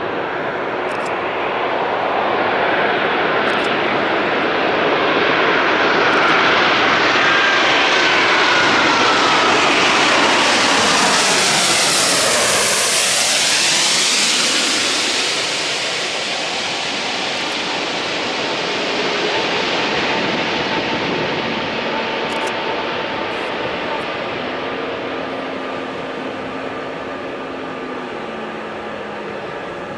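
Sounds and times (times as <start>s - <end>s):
jet engine rumble and whine: 0.0s - 29.9s.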